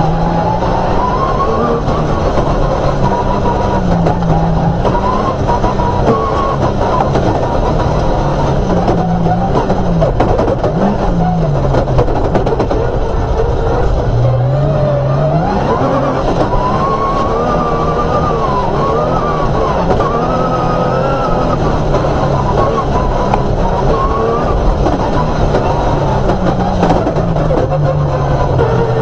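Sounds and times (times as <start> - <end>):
rally car engine running hard: 0.0 - 29.0.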